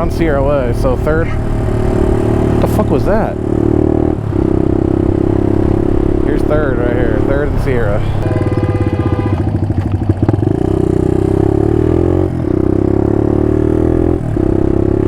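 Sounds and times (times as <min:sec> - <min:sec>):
motorcycle engine revving and shifting: 0:00.0 - 0:15.0.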